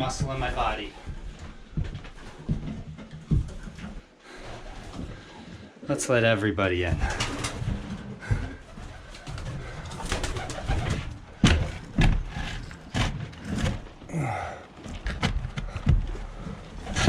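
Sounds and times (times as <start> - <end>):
knocks and clatter of birds moving: 0.0 - 5.7, 6.8 - 17.0.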